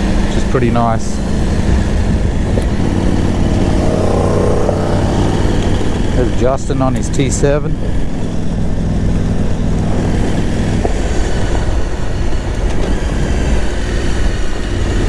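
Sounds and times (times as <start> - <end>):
motorcycle engine running: 0.0 - 15.0
steady rushing noise: 0.0 - 15.0.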